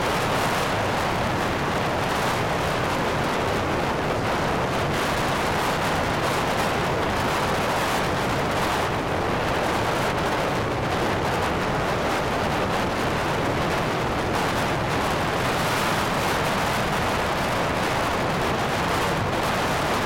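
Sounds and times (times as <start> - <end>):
strong wind: 0.0 - 20.0.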